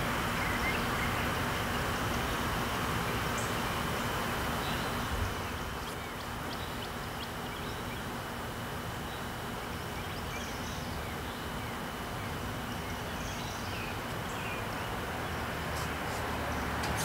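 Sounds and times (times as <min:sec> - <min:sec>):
distant traffic rumble: 0:00.0 - 0:17.0.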